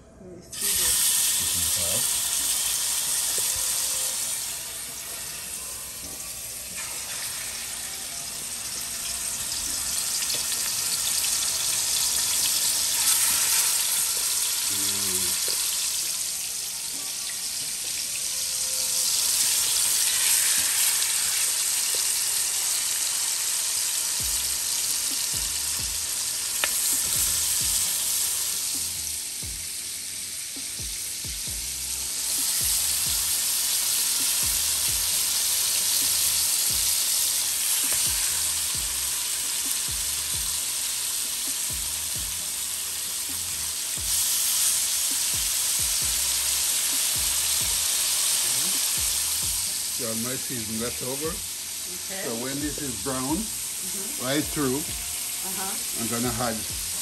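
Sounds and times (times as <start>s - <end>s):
meat sizzling in hot oil: 0.5s - 57.0s.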